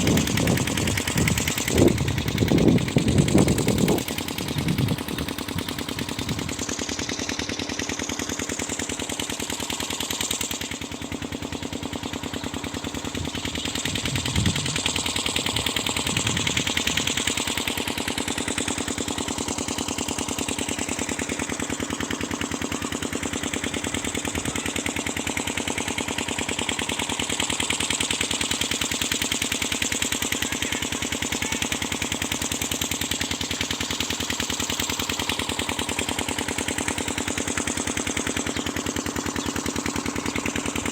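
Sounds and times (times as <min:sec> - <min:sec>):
water pump engine chugging: 0:00.0 - 0:40.9.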